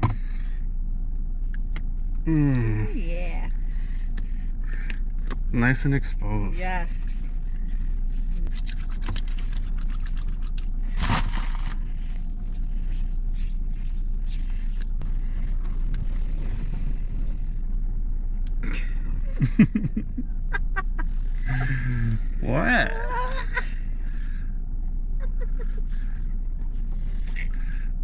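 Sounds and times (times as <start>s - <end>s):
car cabin hum: 0.0s - 28.0s.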